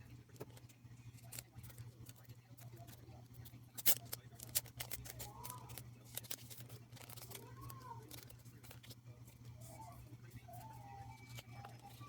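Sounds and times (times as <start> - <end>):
steady low hum: 0.0 - 12.0
packaging being handled: 0.3 - 12.0.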